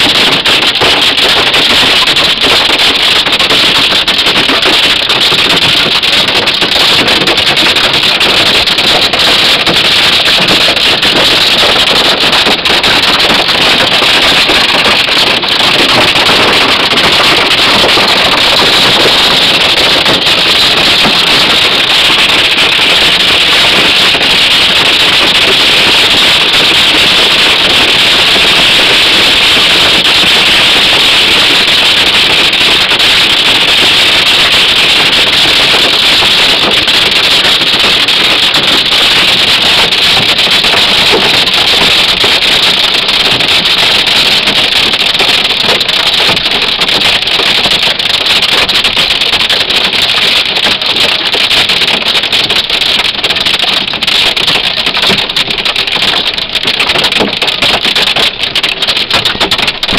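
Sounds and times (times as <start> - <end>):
hail and rain on car roof: 0.0 - 59.9.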